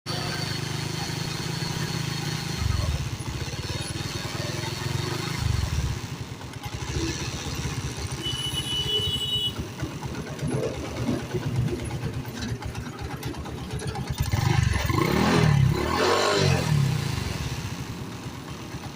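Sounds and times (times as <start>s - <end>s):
motorcycle engine running: 0.1s - 18.9s.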